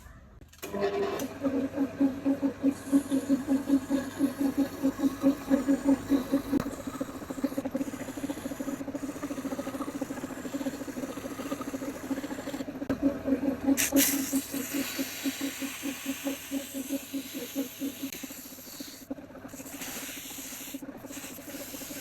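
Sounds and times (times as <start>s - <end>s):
metal lathe pulsing hum: 0.7s - 22.0s.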